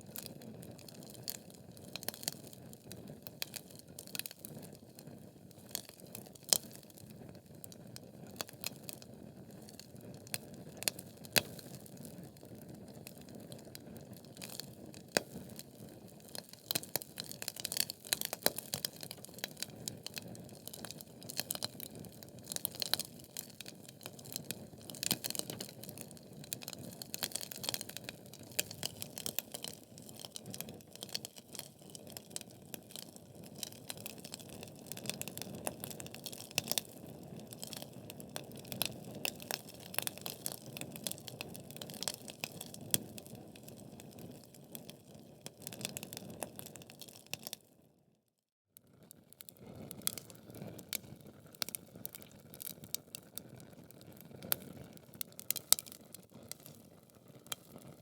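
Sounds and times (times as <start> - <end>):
fire crackling and popping: 0.0 - 47.7, 49.1 - 58.0
soft noise of flames: 0.0 - 47.7, 48.8 - 58.0.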